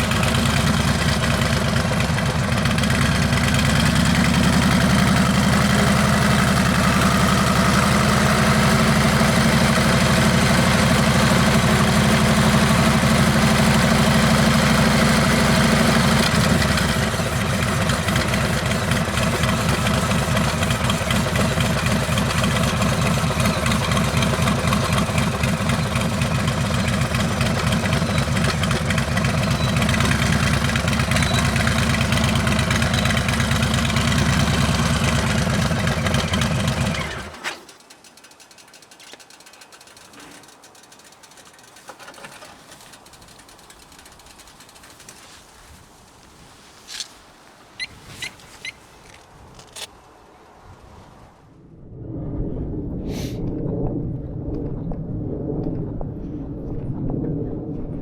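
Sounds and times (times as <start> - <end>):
motorcycle engine running: 0.0 - 47.2.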